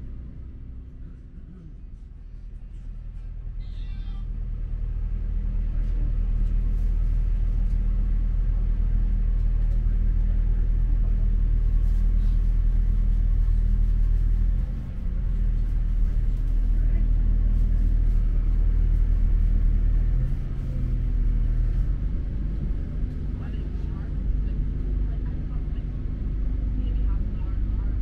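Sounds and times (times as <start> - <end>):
diesel train rumble from inside: 0.0 - 28.0.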